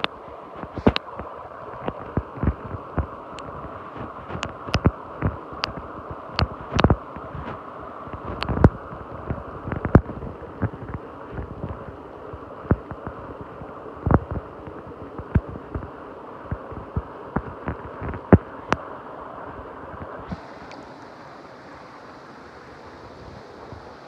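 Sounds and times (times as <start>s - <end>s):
muffled underwater stream rush: 0.0s - 24.0s.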